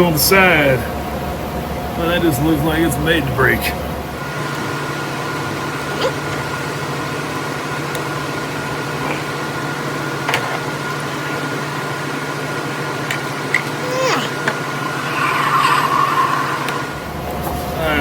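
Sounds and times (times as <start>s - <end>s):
fans humming: 0.0s - 18.0s.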